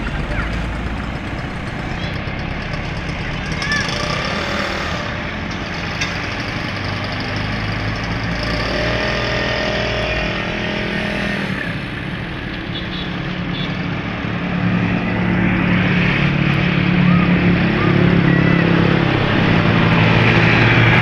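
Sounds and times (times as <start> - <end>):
vehicle engines passing: 0.0 - 21.0.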